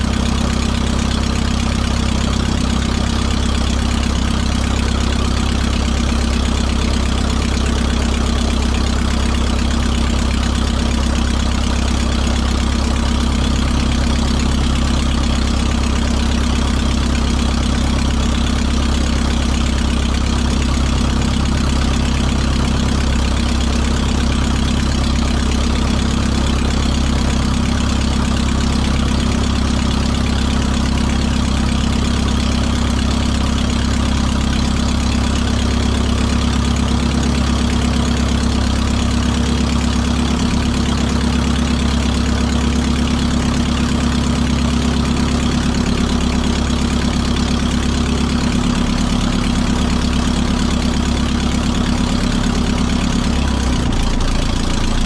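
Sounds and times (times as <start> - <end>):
airplane engine and propeller idling: 0.0 - 55.0.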